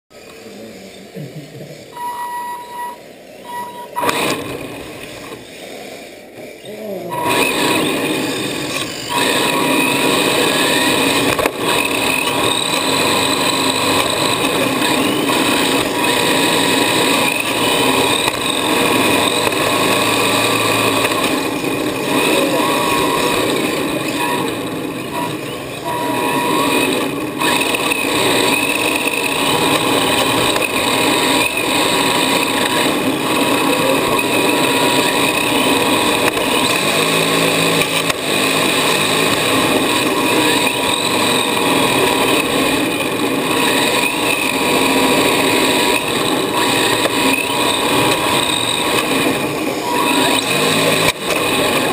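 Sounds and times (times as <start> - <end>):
rc car motor whine: 0.1 - 51.9.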